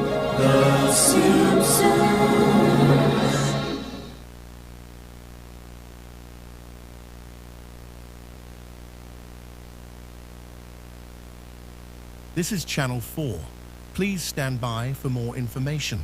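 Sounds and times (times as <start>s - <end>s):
low electrical hum: 0.0s - 16.0s
static hiss: 0.0s - 16.0s.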